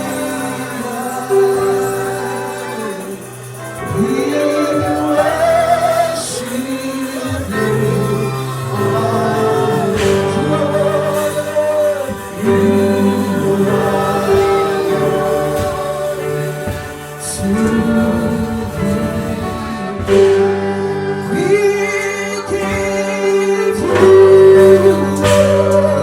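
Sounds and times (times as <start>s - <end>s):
instrumental backing: 0.0s - 26.0s
voices singing gospel: 0.0s - 26.0s.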